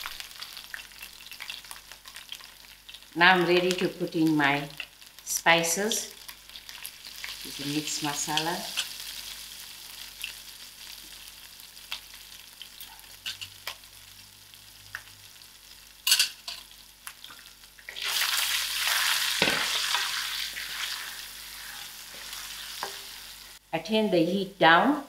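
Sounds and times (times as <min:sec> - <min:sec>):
food sizzling in hot oil: 0:00.0 - 0:23.7.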